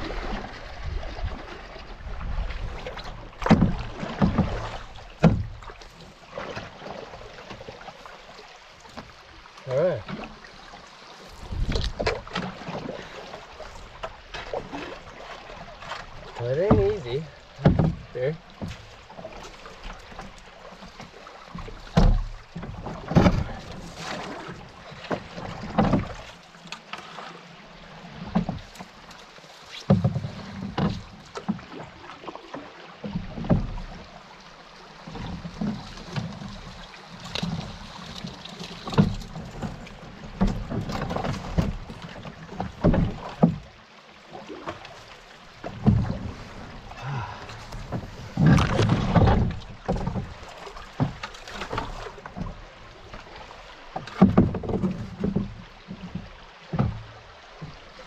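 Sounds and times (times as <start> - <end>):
paddle knocking against hull: 0.0 - 58.0
paddle strokes splashing: 0.0 - 58.0.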